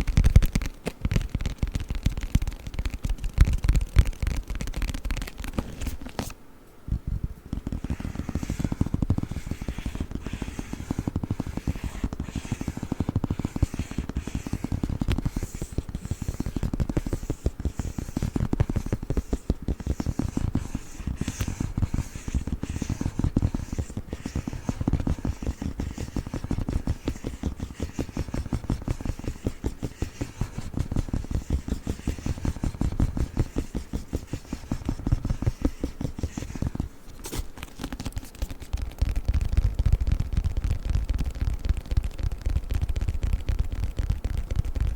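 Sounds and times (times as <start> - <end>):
fingernails tapping on a book: 0.0 - 6.3, 7.5 - 44.9.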